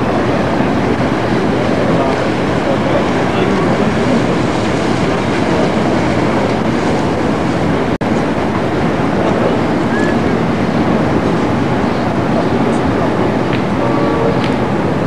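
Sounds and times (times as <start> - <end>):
loud rumbling noise: 0.0 - 15.0.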